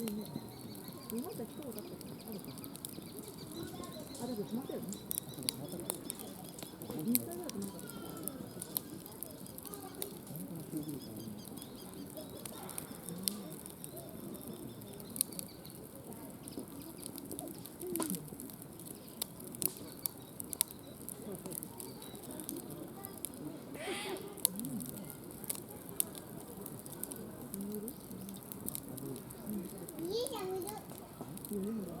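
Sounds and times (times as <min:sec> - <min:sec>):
campfire crackling: 0:00.0 - 0:32.0
faint distant voices or birds: 0:00.0 - 0:32.0.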